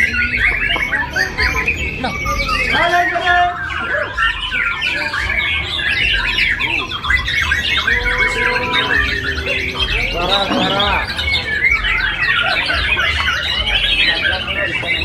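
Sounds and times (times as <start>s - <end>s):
caged songbirds singing: 0.0s - 15.0s.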